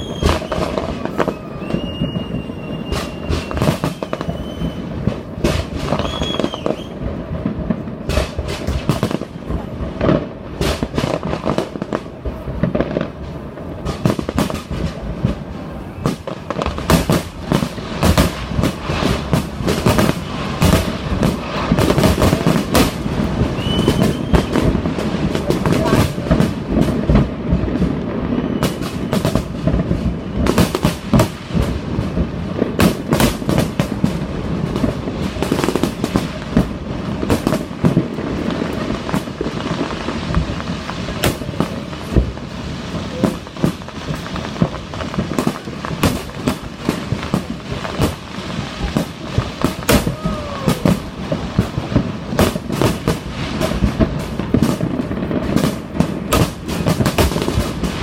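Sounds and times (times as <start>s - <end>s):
fireworks bangs and cracks: 0.0s - 58.0s.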